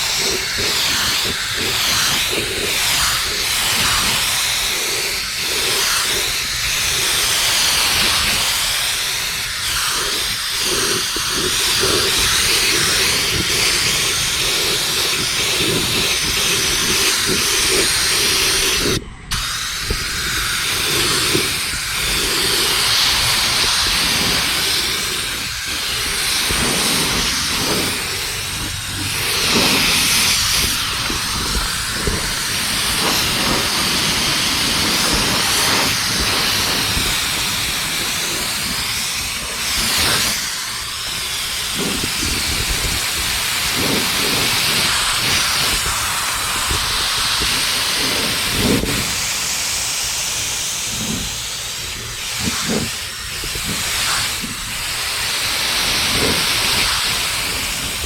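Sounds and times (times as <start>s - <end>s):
paint spray hiss: 0.0s - 58.0s.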